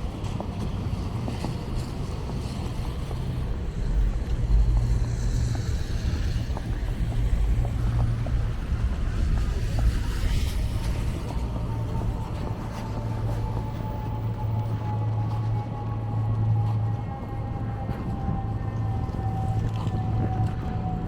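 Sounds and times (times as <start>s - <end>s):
wind gusting over microphone: 0.0s - 21.0s.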